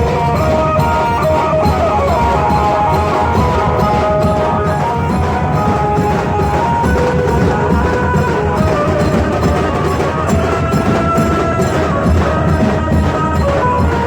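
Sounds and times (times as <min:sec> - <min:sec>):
fast dense drumming: 0:00.0 - 0:14.0
melody of held notes: 0:00.0 - 0:14.0.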